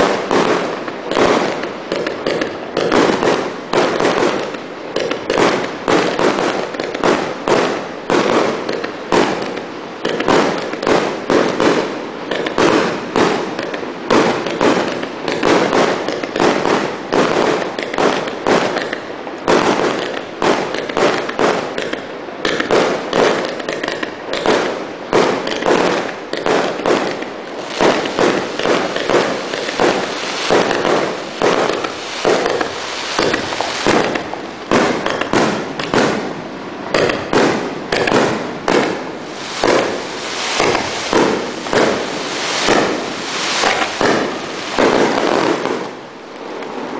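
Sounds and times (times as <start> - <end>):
fireworks bangs and bursts: 0.0 - 46.9.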